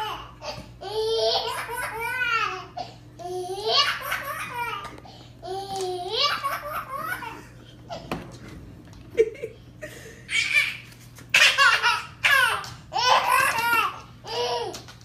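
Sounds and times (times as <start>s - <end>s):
baby laughing: 0.0s - 8.1s, 10.3s - 14.8s.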